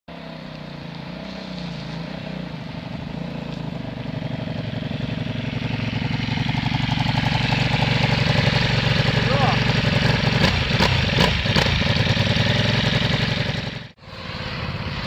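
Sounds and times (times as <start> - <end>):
motorcycle engine running: 0.2 - 15.0.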